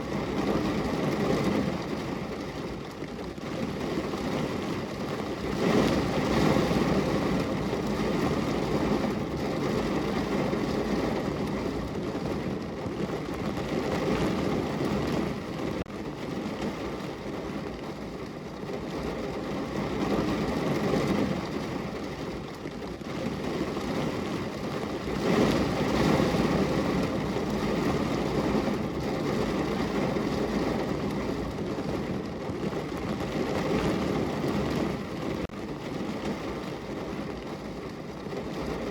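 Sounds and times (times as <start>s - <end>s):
rain on car window: 0.0s - 38.9s.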